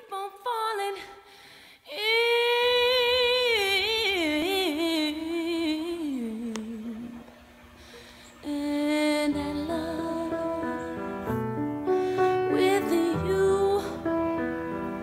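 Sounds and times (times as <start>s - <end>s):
slow wordless melody: 2.0s - 15.0s.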